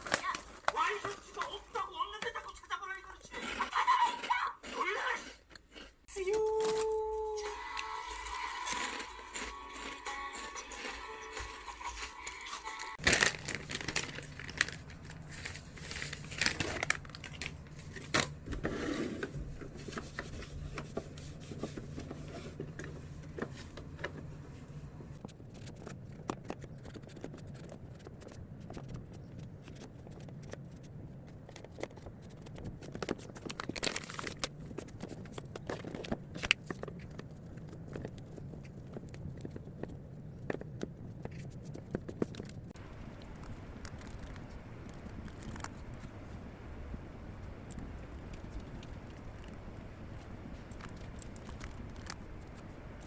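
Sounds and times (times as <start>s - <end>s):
crinkling and rustling: 0.0s - 3.6s, 5.5s - 46.5s, 47.3s - 53.0s.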